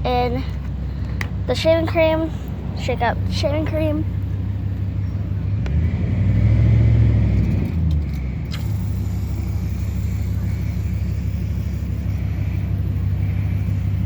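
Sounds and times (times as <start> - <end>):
motor engine humming: 0.0 - 14.0.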